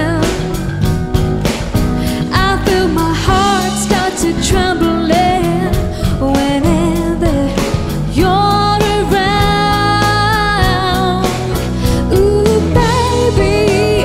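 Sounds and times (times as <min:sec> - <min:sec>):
song with singing voice: 0:00.0 - 0:14.0.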